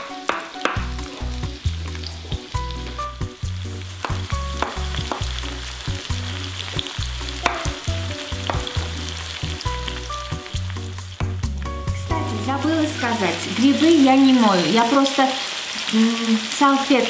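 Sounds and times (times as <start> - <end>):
soft background music: 0.0 - 15.2
vegetables sizzling in a pan: 0.0 - 17.0.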